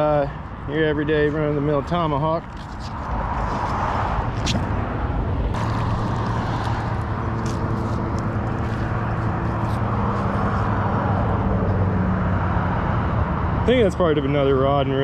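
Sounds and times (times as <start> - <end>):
continuous rushing noise: 0.0 - 15.0.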